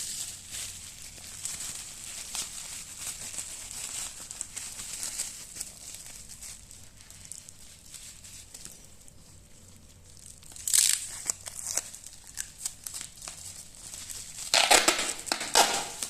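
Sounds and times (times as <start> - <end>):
plastic packing crinkling: 0.0 - 16.0.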